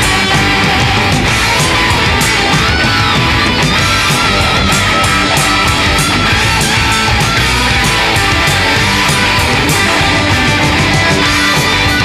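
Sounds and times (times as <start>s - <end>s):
distorted electric guitar riff: 0.0s - 12.0s
sharp rhythmic hits: 0.0s - 12.0s.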